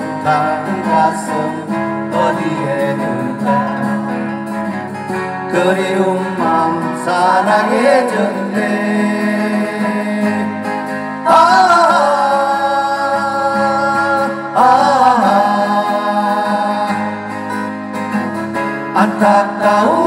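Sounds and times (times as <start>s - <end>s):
person singing long wordless notes: 0.0s - 4.2s, 5.5s - 17.7s, 18.8s - 20.0s
acoustic guitars strumming: 0.0s - 20.0s.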